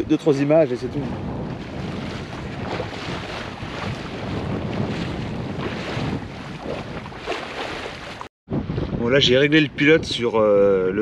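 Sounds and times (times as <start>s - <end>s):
water rushing along hull: 0.0s - 10.2s
wind buffeting microphone: 0.0s - 11.0s.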